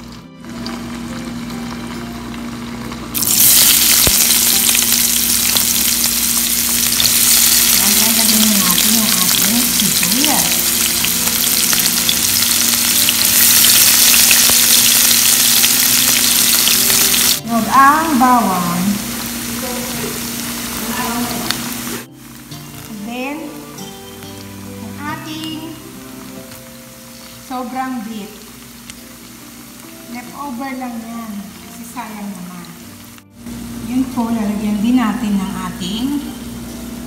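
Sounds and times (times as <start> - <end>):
onions sizzling in hot oil: 0.0 - 37.0.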